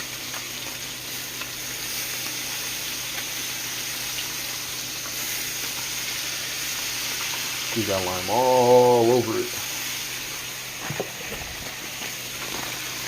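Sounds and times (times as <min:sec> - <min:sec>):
fish sizzling in butter: 0:00.0 - 0:13.0.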